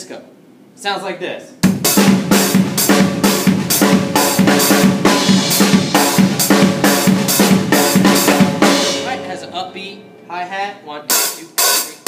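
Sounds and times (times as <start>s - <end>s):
drum kit playing groove: 1.6s - 12.0s.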